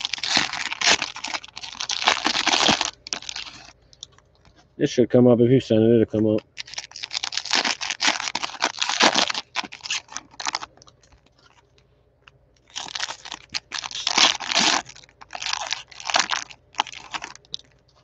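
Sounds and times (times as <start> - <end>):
plastic wrappers crinkling and tearing: 0.0 - 4.6, 6.4 - 11.8, 12.6 - 18.0.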